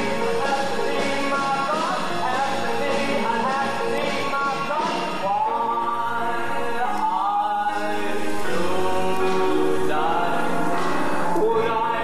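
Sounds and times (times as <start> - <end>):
man singing: 0.0 - 12.0
musical accompaniment: 0.0 - 12.0.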